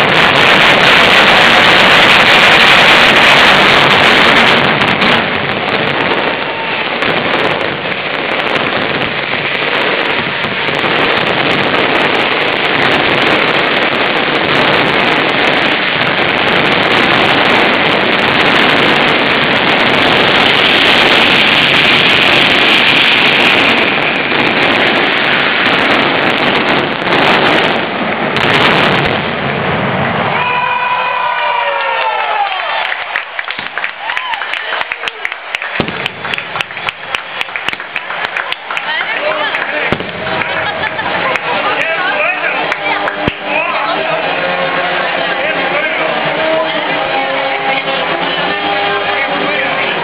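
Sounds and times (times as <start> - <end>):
firecrackers barrage: 0.0 - 50.0.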